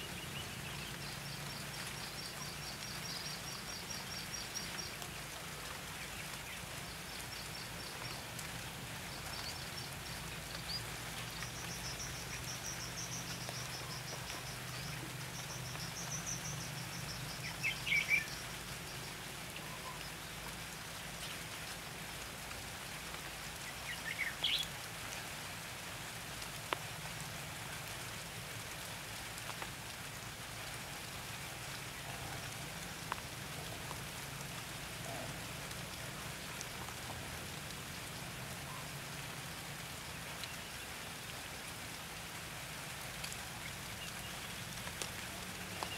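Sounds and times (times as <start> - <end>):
rain hiss: 0.0 - 45.9.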